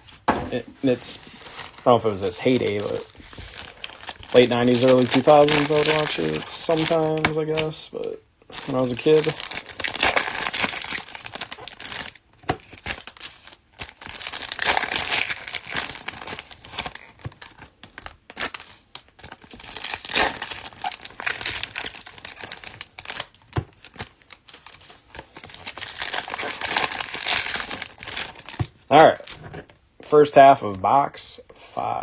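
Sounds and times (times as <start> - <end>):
plastic wrappers crinkling and tearing: 0.9 - 29.5.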